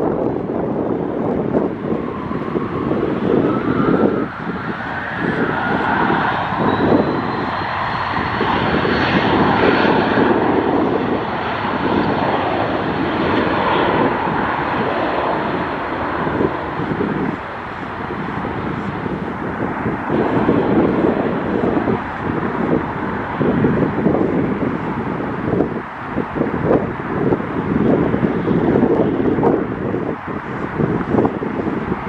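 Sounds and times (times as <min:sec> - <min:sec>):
airplane turbine engines whining: 0:00.0 - 0:32.0
wind buffeting microphone: 0:00.0 - 0:32.0.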